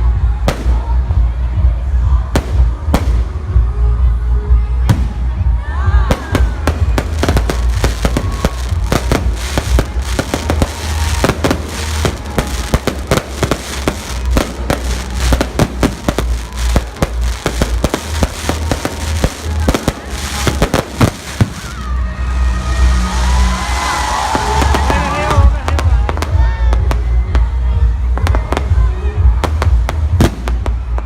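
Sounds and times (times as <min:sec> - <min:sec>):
fireworks bangs and crackling: 0:00.0 - 0:03.7, 0:04.8 - 0:31.0.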